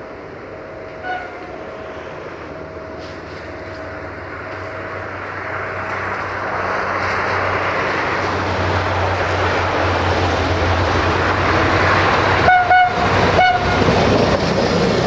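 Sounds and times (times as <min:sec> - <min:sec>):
diesel railcar engine drone: 0:00.0 - 0:15.0
train wheels rolling on rails: 0:00.0 - 0:15.0.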